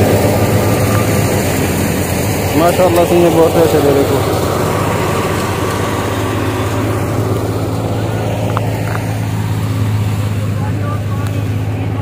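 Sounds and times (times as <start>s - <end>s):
blower rushing noise: 0.0s - 12.0s
thresher low hum: 0.0s - 12.0s.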